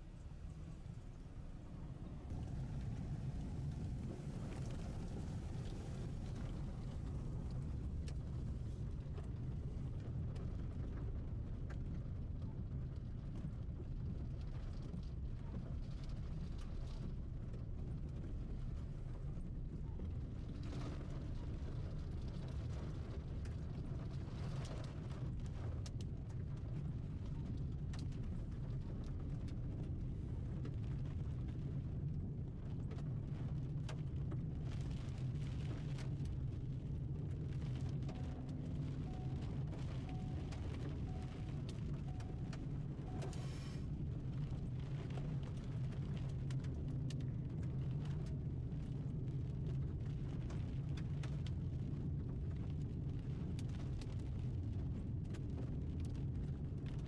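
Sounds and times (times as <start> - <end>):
rain and grit ticking on car: 0.0 - 57.0
car driving on gravel road: 1.6 - 57.0.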